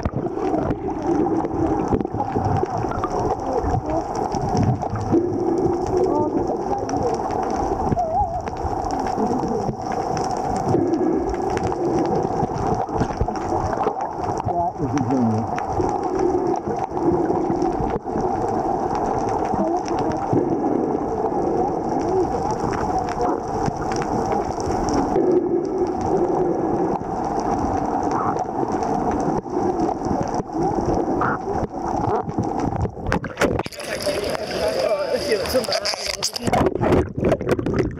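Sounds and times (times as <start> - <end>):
crackle of small clicks: 0.0 - 37.9
steady underwater hum: 0.0 - 37.9.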